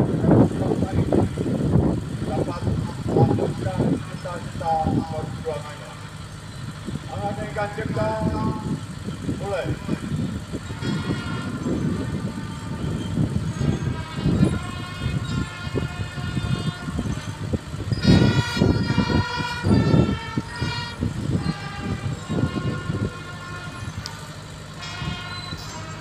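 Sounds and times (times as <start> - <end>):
low irregular rumbling: 0.0 - 26.0
held horn-like tones: 2.4 - 26.0.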